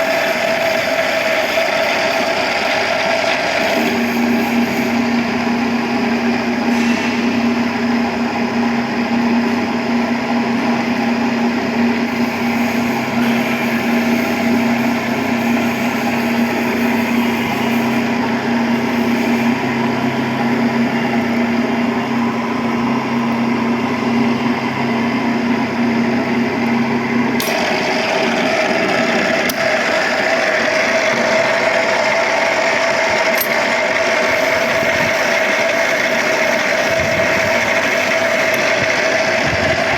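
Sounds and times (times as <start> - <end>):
pipe-threading machine motor hum: 0.0 - 39.9.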